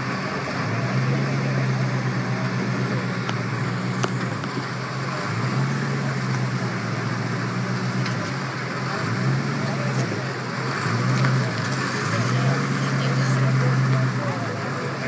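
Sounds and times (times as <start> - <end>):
engine idling through loud exhaust: 0.0 - 15.0.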